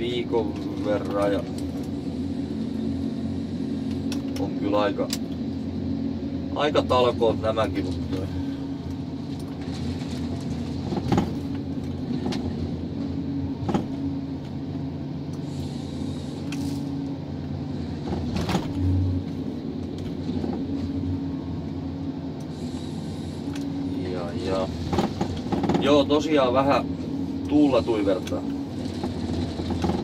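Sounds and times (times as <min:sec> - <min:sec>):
diesel engine and hydraulics running: 0:00.0 - 0:30.0.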